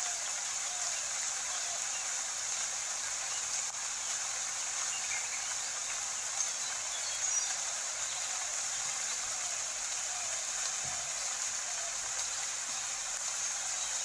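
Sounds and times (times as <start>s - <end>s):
steady rainfall: 0.0s - 14.0s.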